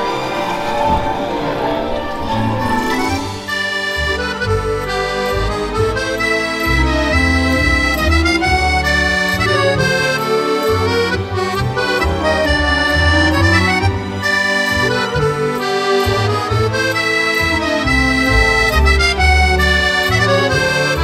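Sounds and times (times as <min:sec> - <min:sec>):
accordion music: 0:00.0 - 0:21.0.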